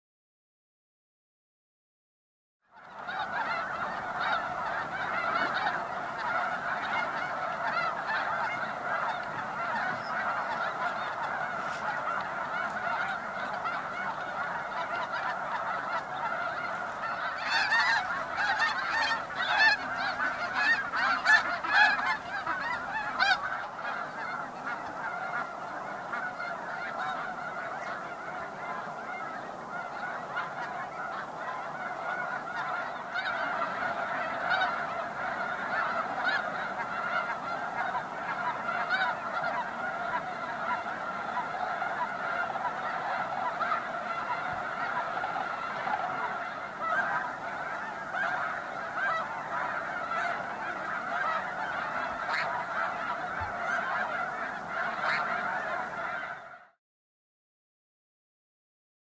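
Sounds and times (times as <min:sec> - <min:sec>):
snow geese honking: 0:02.7 - 0:56.8.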